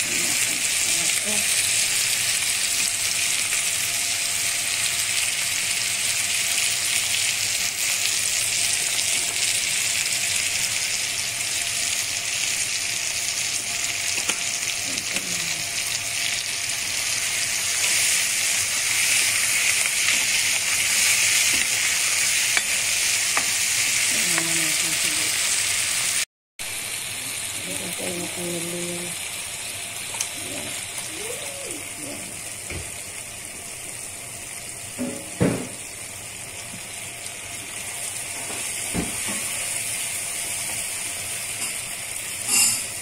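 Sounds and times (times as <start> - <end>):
vegetables sizzling in a pan: 0.0 - 43.0.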